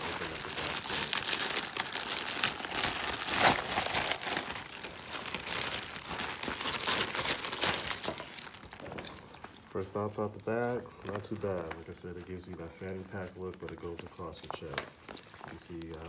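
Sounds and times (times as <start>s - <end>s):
plastic packaging crinkling: 0.0s - 16.0s
sharp plastic crackle: 0.0s - 16.0s.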